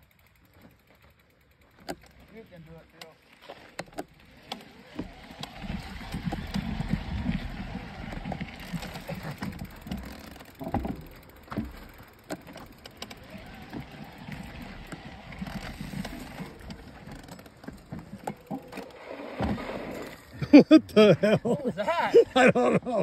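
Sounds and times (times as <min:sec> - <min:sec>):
bike tyres crunching on gravel: 0:00.0 - 0:20.4
bike knocks and clicks: 0:00.4 - 0:19.6.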